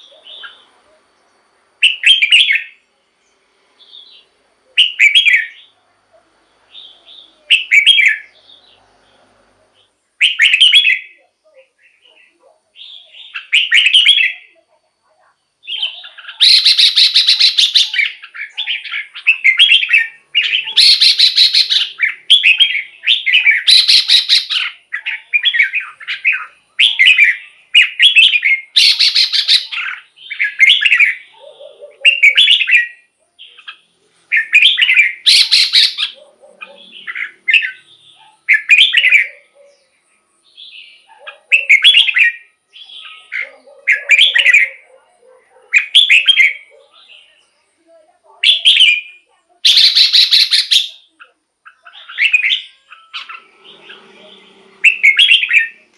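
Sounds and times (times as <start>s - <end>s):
bulbul singing warbled phrases: 0.0s - 1.1s, 6.7s - 8.8s, 9.8s - 55.9s.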